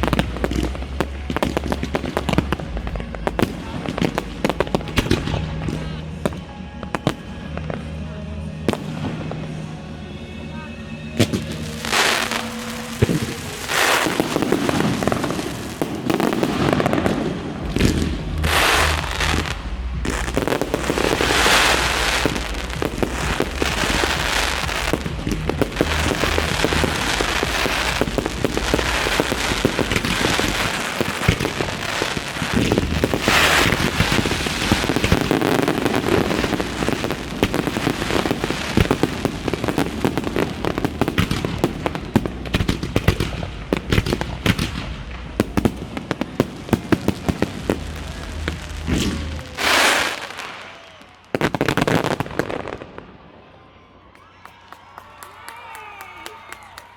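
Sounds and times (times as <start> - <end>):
fireworks bangs and crackling: 0.0 - 53.5.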